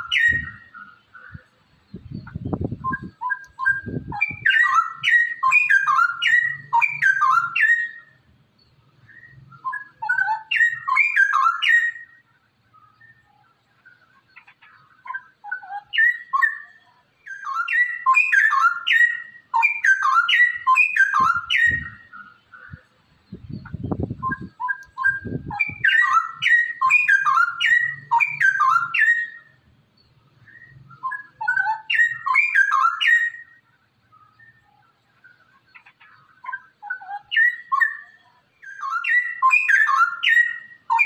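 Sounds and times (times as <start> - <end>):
bird singing: 0.0 - 41.0.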